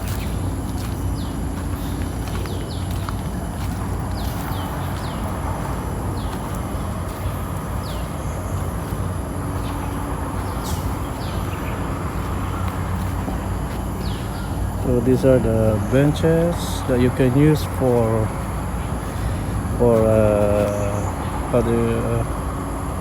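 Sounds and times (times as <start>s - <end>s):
birds chirping: 0.0s - 23.0s
steady low rumble: 0.0s - 23.0s.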